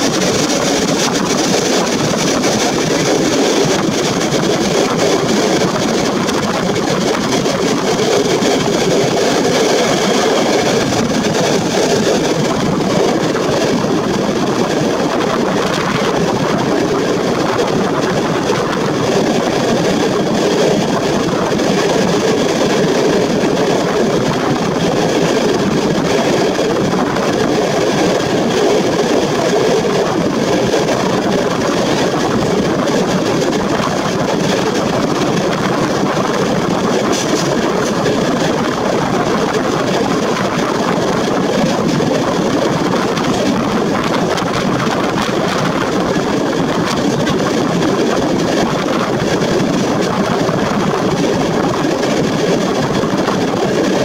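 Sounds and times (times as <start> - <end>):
train wheel and rail noise: 0.0 - 54.0
wind: 0.0 - 54.0.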